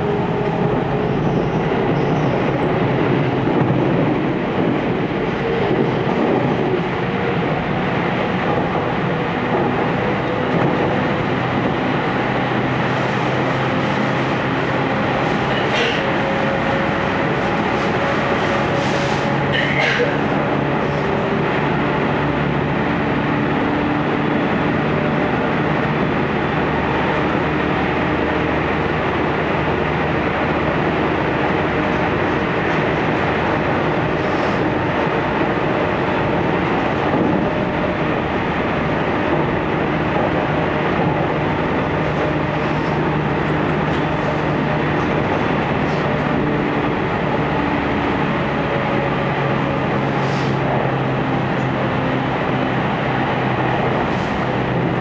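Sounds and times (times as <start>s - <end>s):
low train hum: 0.0s - 55.0s
train wheels rumbling on rail: 0.0s - 55.0s.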